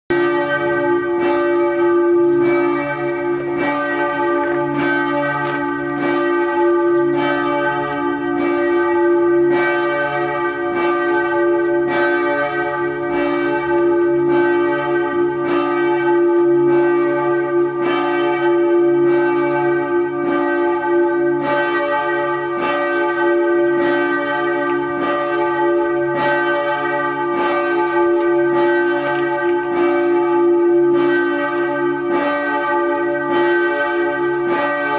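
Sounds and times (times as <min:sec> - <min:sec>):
bells ringing: 0:00.1 - 0:34.9.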